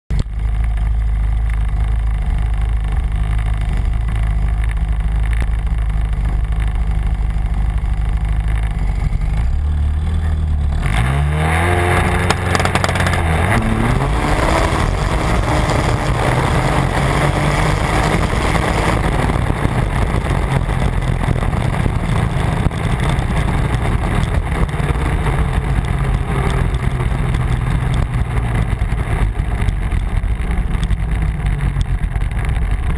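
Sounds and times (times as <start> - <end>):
snowmobile engine revving: 1.4 - 32.9.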